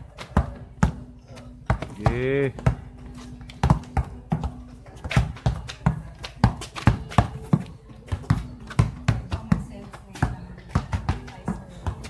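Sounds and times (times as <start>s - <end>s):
basketball bouncing on asphalt: 0.0s - 12.0s.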